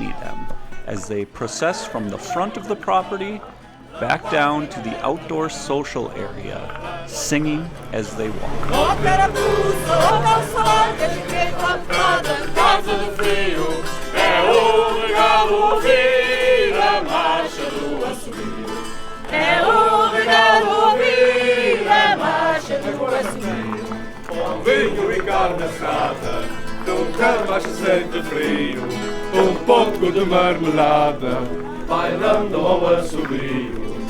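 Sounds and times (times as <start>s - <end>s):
group of voices singing: 0.0s - 34.0s
guitar accompaniment: 0.0s - 34.0s.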